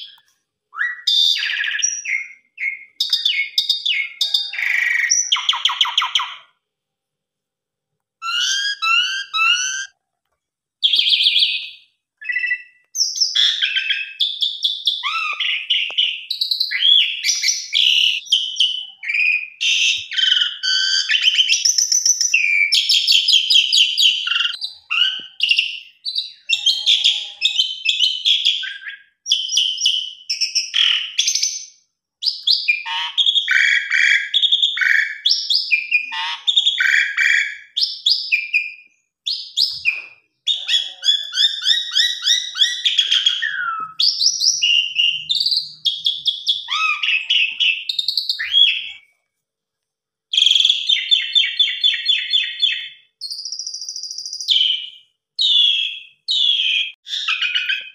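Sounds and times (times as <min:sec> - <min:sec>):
starling singing trills and whistles: 0:00.8 - 0:06.6, 0:08.2 - 0:10.0, 0:10.8 - 0:49.0, 0:50.3 - 0:57.9.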